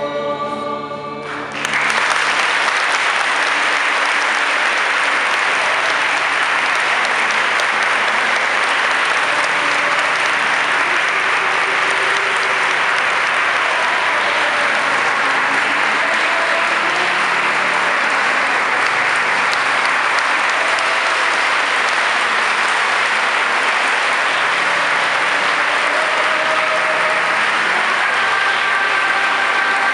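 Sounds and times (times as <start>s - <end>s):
crowd applauding: 1.3s - 29.9s.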